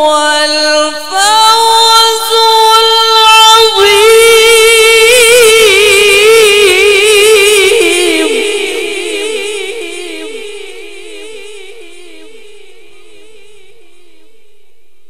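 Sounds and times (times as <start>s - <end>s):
man reciting with echo: 0.0s - 14.5s.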